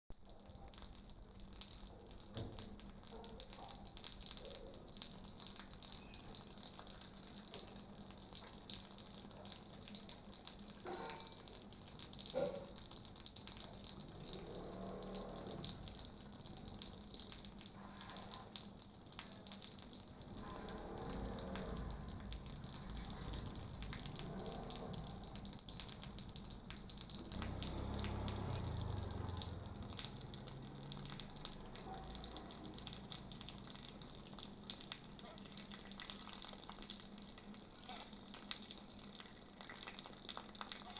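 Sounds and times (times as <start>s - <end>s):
water running and splashing: 0.1s - 40.9s.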